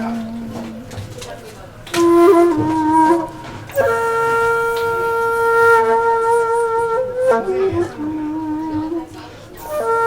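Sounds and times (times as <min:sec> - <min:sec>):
wind instrument playing: 0:00.0 - 0:10.0.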